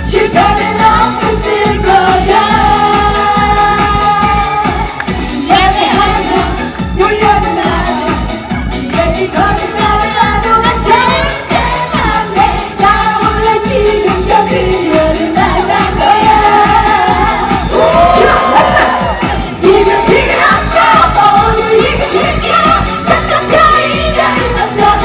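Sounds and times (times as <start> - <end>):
live pop band with singing: 0.0 - 25.0.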